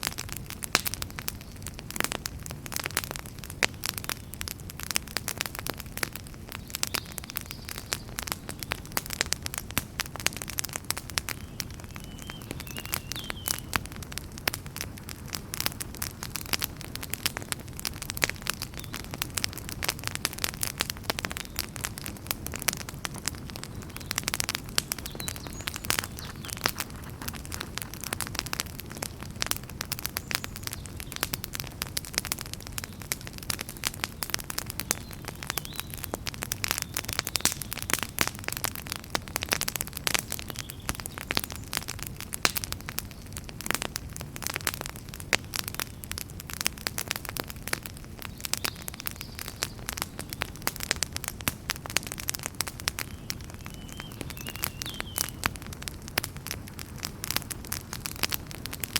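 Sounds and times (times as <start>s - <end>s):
wood fire crackling in fireplace: 0.0s - 58.9s.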